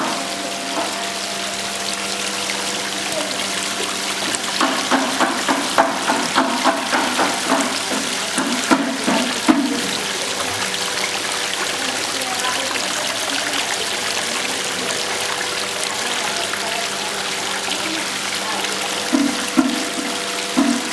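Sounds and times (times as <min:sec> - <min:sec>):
water pouring over fountain: 0:00.0 - 0:20.9.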